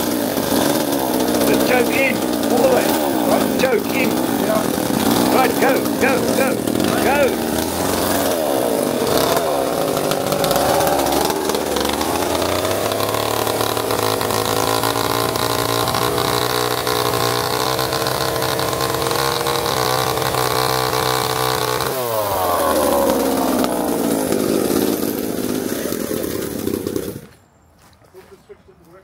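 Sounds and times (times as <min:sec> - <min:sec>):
chainsaw cutting wood: 0:00.0 - 0:27.4.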